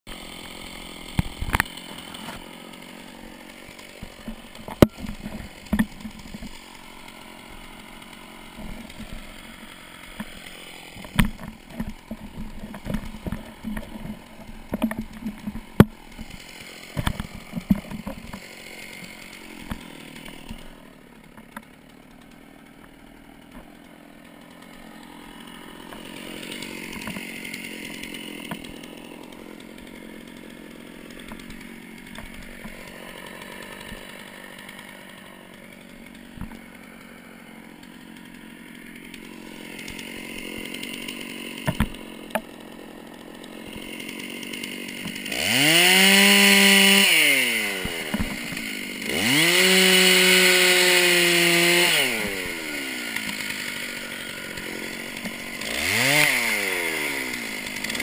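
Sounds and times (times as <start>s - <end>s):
branches snapping: 0.1s - 58.0s
chainsaw running: 0.1s - 58.0s.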